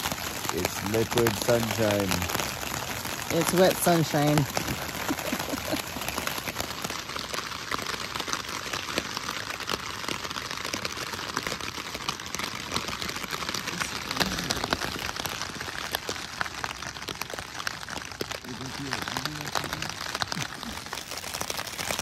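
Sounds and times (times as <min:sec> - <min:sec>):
raindrops ticking: 0:00.0 - 0:22.0
steady rain falling: 0:00.0 - 0:22.0.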